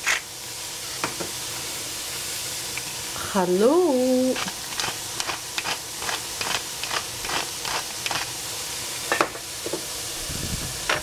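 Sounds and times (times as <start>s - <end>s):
cabbage sizzling in a pan: 0.0s - 11.0s.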